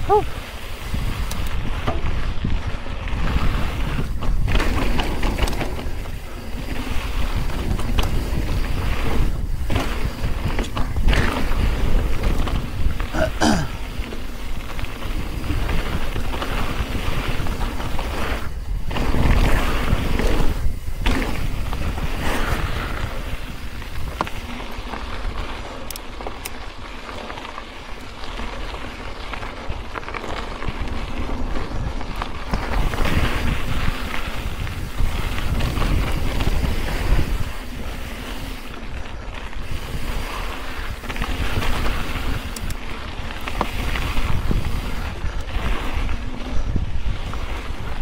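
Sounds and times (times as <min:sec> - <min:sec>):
wind on microphone: 0:00.0 - 0:26.0, 0:30.6 - 0:48.0
bike rumbling on dirt trail: 0:00.0 - 0:48.0.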